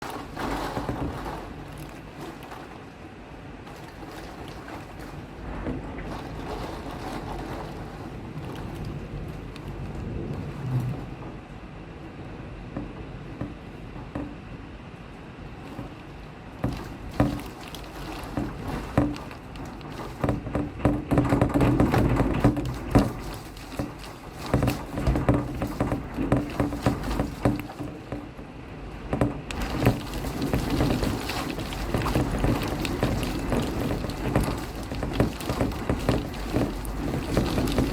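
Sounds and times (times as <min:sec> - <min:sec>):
raindrops ticking on a surface: 0:00.0 - 0:11.5, 0:15.5 - 0:28.2, 0:28.9 - 0:37.9
rain falling: 0:00.0 - 0:11.6, 0:15.5 - 0:28.1, 0:28.7 - 0:37.9.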